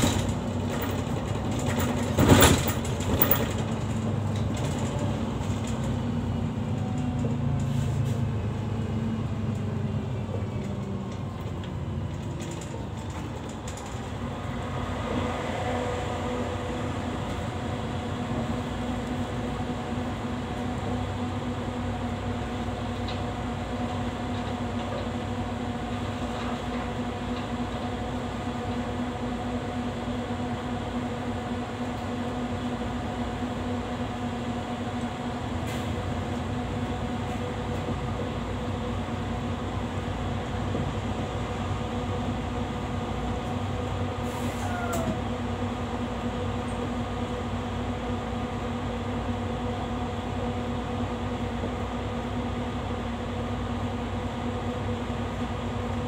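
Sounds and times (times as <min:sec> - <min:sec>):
bus mechanical hum: 0:00.0 - 0:56.0.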